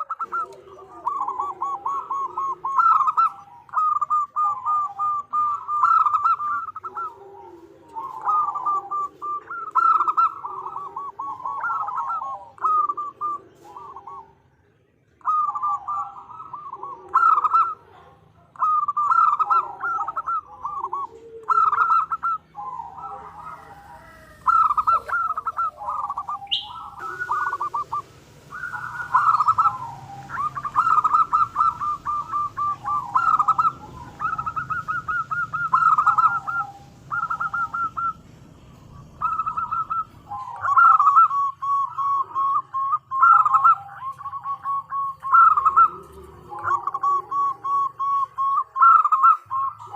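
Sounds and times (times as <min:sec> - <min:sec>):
dove cooing: 0:00.0 - 0:49.9.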